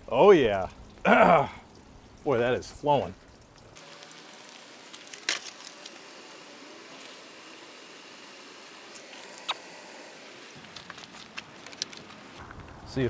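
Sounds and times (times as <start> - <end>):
rain hiss: 0.0 - 13.0.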